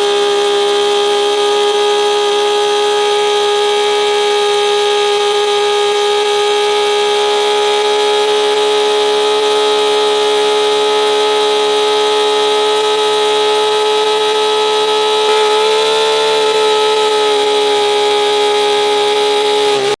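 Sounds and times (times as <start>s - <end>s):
model engine buzzing at high revs: 0.0s - 20.0s.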